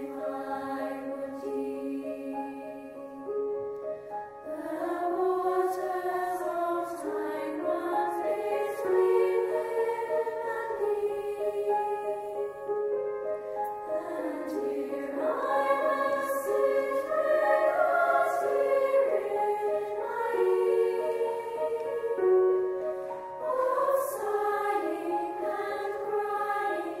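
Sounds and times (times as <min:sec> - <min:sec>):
choir singing in harmony: 0:00.0 - 0:27.0.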